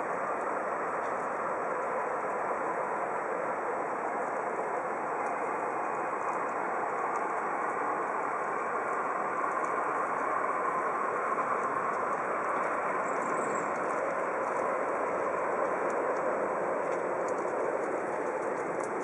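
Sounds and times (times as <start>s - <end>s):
distant traffic rushing: 0.0s - 19.0s.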